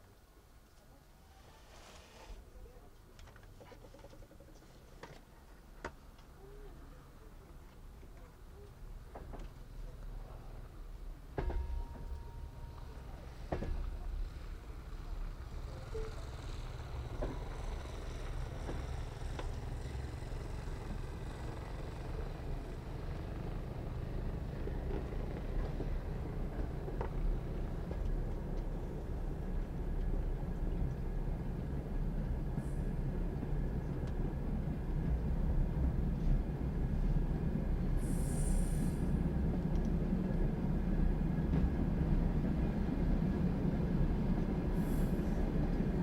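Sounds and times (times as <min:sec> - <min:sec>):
train rumbling over rails: 0:04.1 - 0:46.0.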